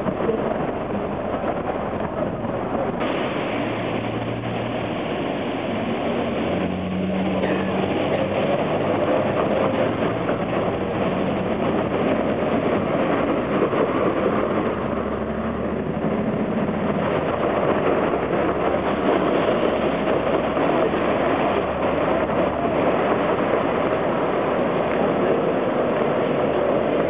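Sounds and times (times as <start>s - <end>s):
cars passing on wet road: 0.0s - 27.0s.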